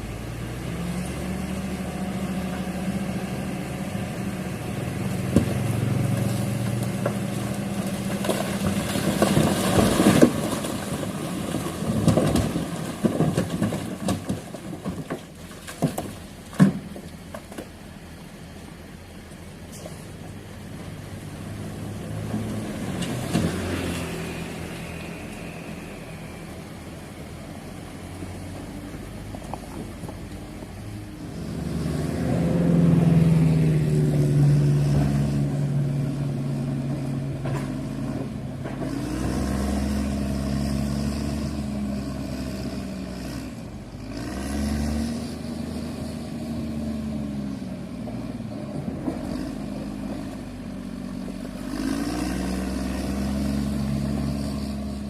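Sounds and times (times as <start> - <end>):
heavy vehicle engine revving: 0.0 - 13.7, 20.7 - 55.0.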